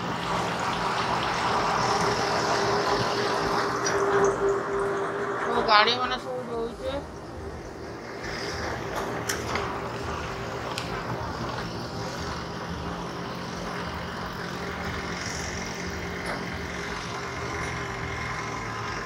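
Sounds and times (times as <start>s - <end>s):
vehicle travelling along road: 0.0s - 19.0s.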